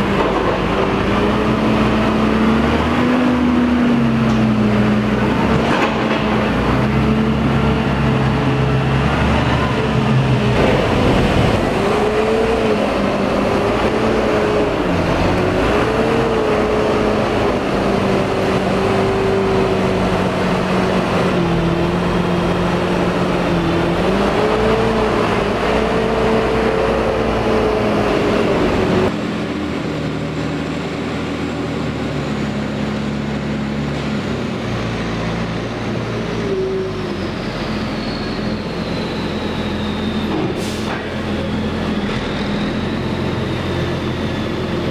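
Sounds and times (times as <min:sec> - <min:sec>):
tractor diesel engine working: 0:00.0 - 0:44.9.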